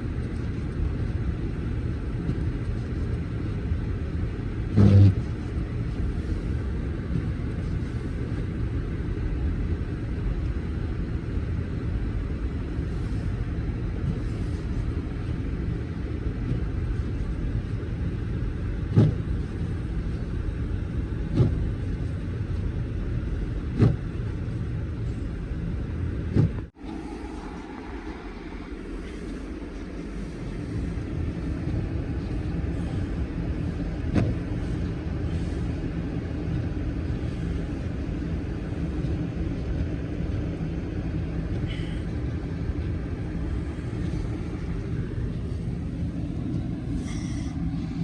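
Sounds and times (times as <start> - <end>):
car driving rumble: 0.0 - 48.0.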